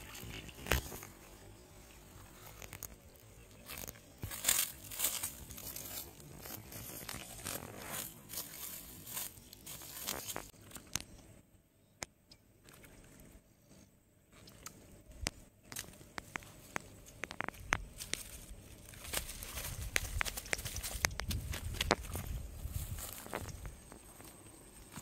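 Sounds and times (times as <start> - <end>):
dry grass and leaves rustling: 0.0 - 11.1, 15.2 - 25.0.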